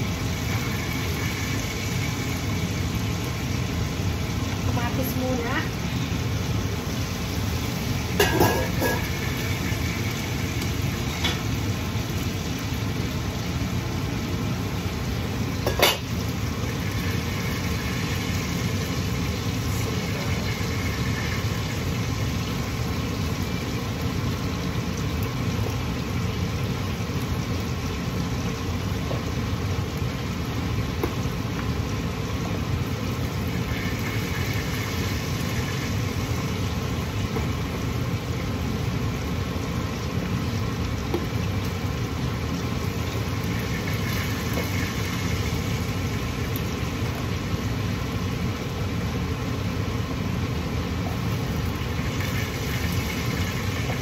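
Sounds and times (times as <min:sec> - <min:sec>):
range hood fan humming: 0:00.0 - 0:54.0.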